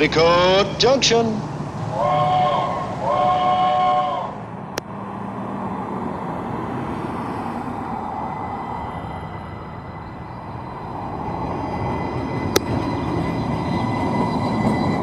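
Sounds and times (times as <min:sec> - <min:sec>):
rumbling vehicle noise: 0:00.0 - 0:15.0.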